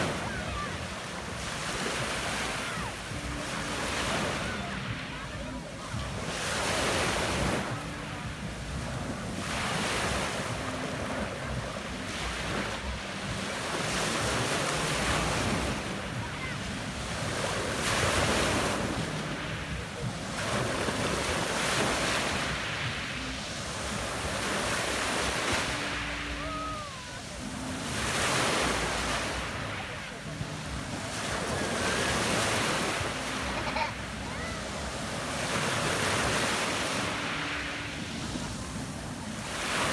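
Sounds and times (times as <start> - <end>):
waves washing onto pebble beach: 0.0 - 39.9.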